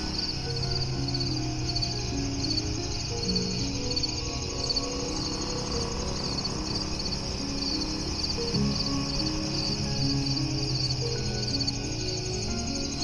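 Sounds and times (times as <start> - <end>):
insects chirping in trills: 0.0 - 13.0
soft music with low notes: 0.0 - 13.0.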